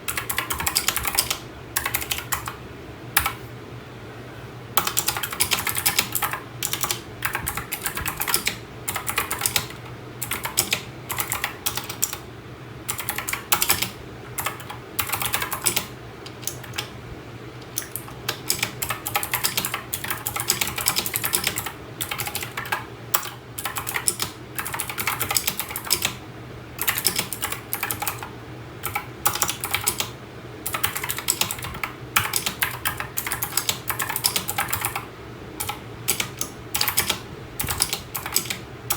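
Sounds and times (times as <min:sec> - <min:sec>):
typing on mechanical keyboard: 0:00.1 - 0:02.6, 0:04.8 - 0:12.2, 0:12.9 - 0:16.9, 0:17.6 - 0:26.2, 0:26.8 - 0:38.9.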